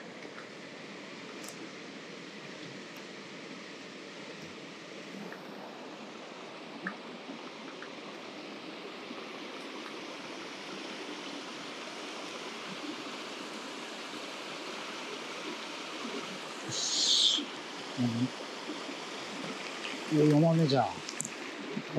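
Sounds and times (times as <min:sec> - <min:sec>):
mountain stream over rocks: 0:00.0 - 0:21.9.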